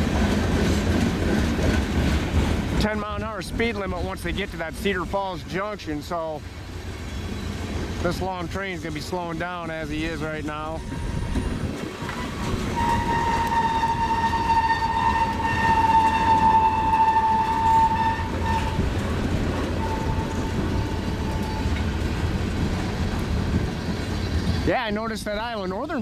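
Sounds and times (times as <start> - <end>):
freight train rumbling: 0.0 - 26.0.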